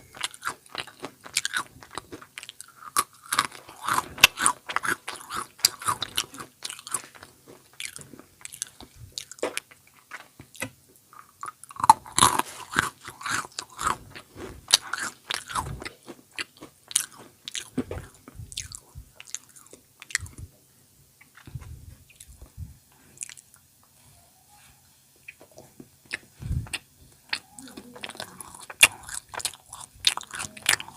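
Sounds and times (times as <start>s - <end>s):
chewing crunchy snack food: 0.0s - 20.5s, 26.1s - 30.9s.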